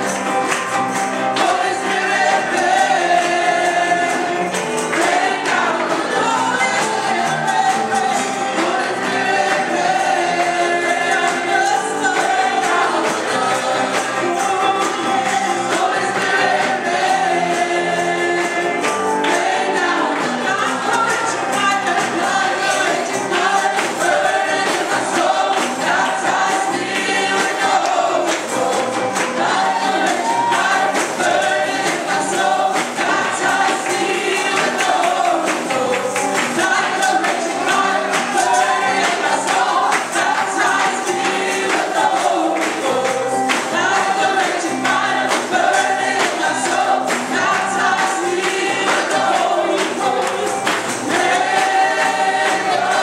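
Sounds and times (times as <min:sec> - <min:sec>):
choir singing: 0:00.0 - 0:53.0
musical accompaniment: 0:00.0 - 0:53.0.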